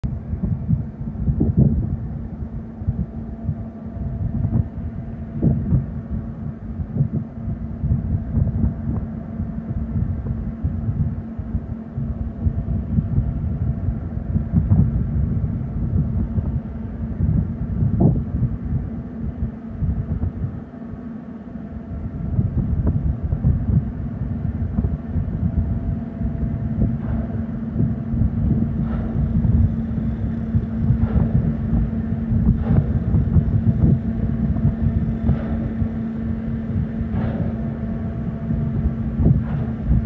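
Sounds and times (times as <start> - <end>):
diesel engine hum: 0.0 - 40.0
wind rumbling on microphone: 0.0 - 40.0.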